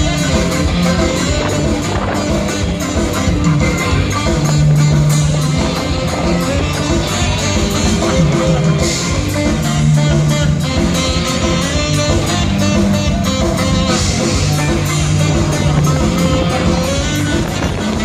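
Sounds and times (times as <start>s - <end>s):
bass guitar: 0.0s - 18.0s
drums with steady beat: 0.0s - 18.0s
electric guitar: 0.0s - 18.0s.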